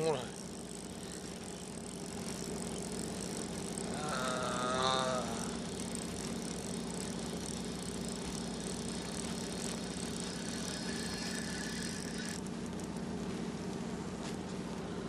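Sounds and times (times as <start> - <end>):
even hiss: 0.0 - 14.7
boat motor humming: 0.0 - 15.0.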